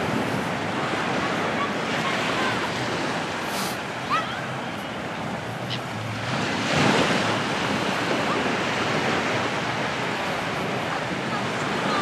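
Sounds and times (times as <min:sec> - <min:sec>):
sea waves breaking on beach: 0:00.0 - 0:12.0.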